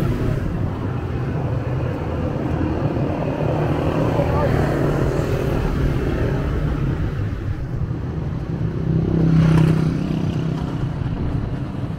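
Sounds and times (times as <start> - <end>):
passing cars and motorcycles: 0.0 - 11.9.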